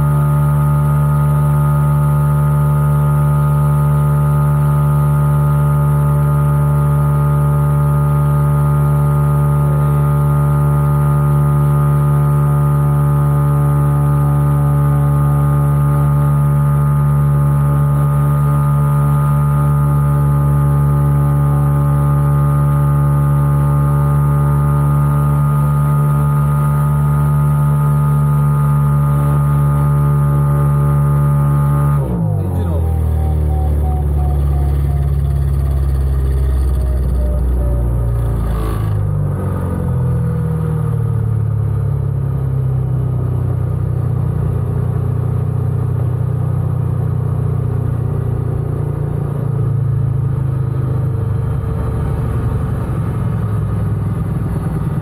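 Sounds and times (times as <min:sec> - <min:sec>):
glider engine running steadily: 0:00.0 - 0:55.0.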